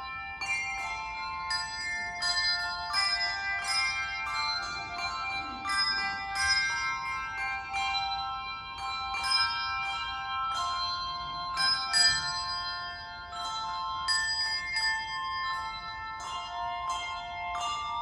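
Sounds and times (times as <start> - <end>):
handbell choir ringing a tune: 0.0 - 18.0.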